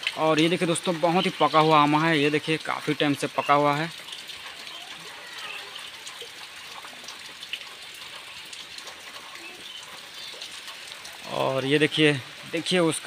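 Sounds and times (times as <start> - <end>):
heavy rain on wet ground: 0.0 - 13.0.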